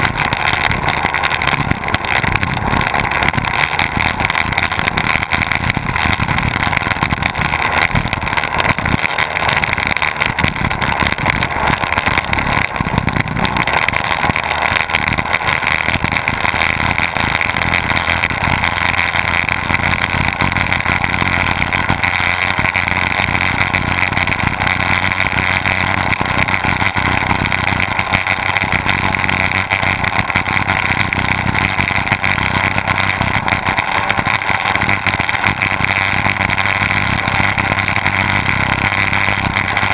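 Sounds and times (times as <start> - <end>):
outboard motors droning: 0.0 - 39.9.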